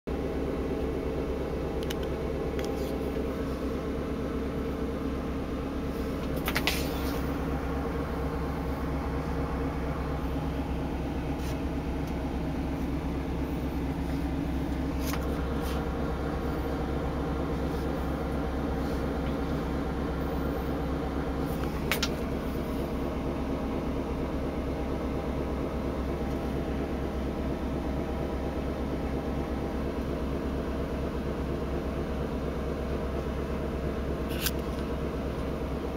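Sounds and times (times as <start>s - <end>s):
ship engine drone: 0.1s - 35.9s.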